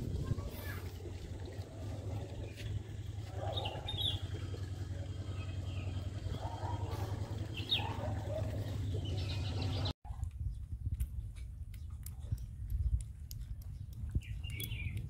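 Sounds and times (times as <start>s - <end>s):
low outdoor rumble: 0.0s - 15.0s
small birds chirping: 2.0s - 15.0s.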